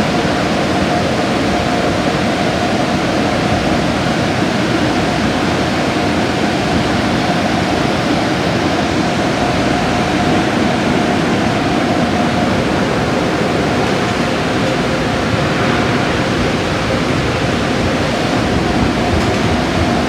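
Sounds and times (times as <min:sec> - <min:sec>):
car wash rushing noise: 0:00.0 - 0:20.0.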